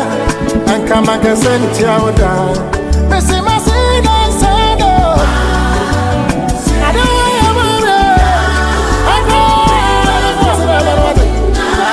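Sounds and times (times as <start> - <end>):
song with singing and beat: 0.0 - 11.9.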